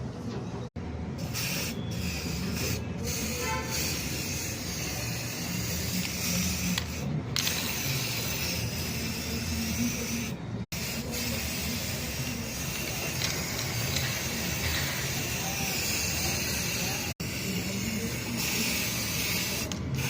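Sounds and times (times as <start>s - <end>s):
spray paint hissing: 1.2s - 20.0s.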